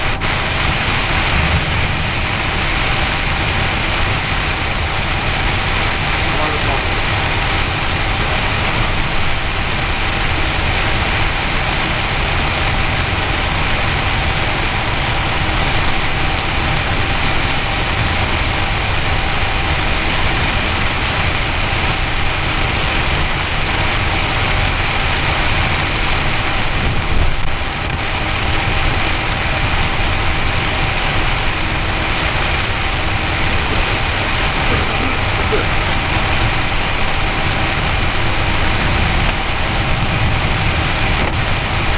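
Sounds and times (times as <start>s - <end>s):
torrential rain: 0.0s - 41.9s
tyre noise on flooded road: 0.0s - 41.9s
vehicle engine running: 0.0s - 41.9s.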